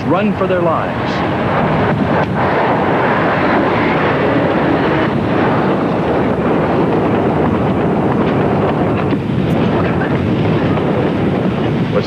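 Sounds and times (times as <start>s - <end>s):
oil tank fire rushing: 0.0s - 12.0s.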